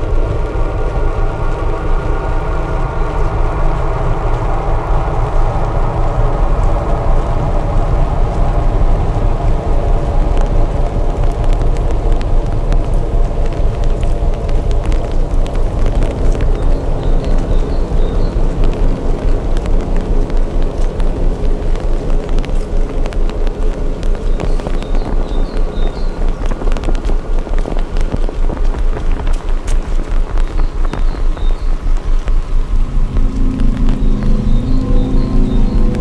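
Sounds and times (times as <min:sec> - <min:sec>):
heavy rain falling: 0:00.0 - 0:36.0
wind rumbling on microphone: 0:00.0 - 0:36.0.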